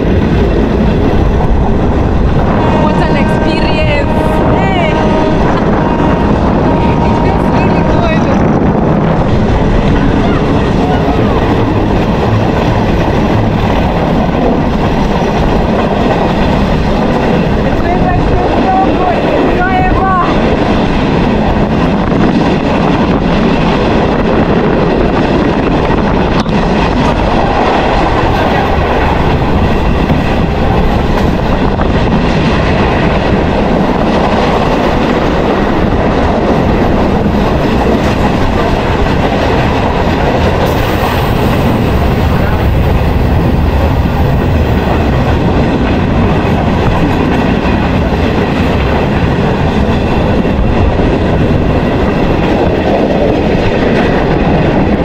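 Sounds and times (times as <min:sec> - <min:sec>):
train running on track from on board: 0:00.0 - 0:55.0.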